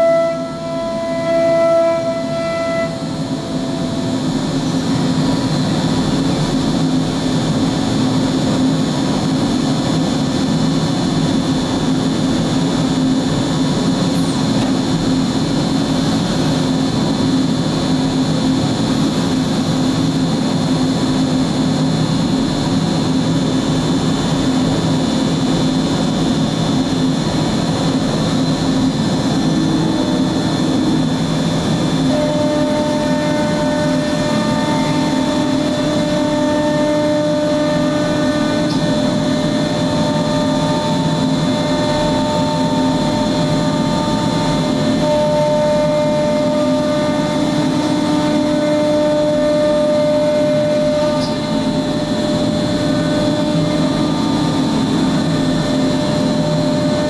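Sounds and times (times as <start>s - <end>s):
cnc router running: 0.0s - 57.0s.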